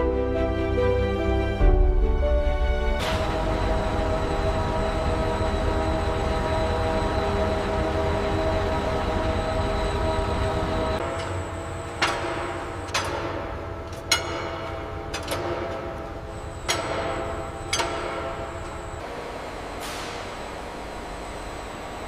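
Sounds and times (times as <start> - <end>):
factory machinery hum: 0.0 - 22.0.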